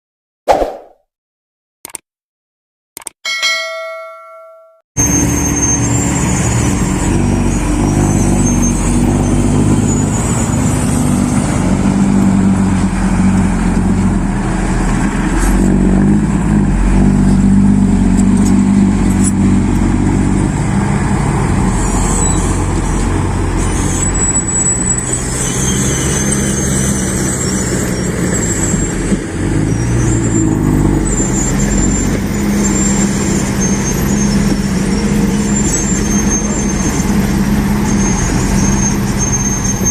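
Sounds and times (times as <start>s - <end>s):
dump truck engine under load: 5.0s - 39.9s.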